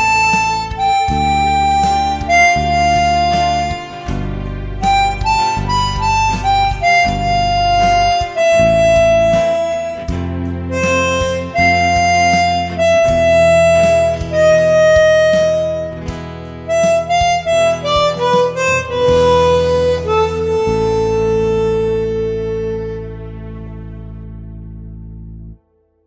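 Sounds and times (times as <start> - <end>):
harmonica slow melody: 0.0 - 25.6
low accompaniment: 0.0 - 26.0.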